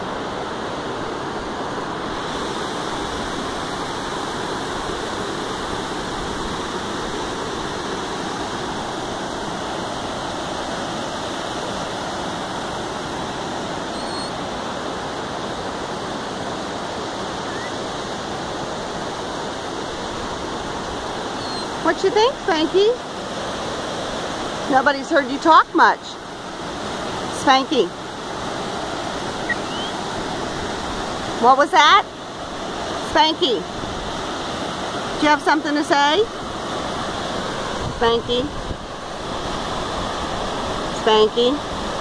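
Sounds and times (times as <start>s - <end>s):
river water rushing over rocks: 0.0s - 41.0s, 41.6s - 42.0s.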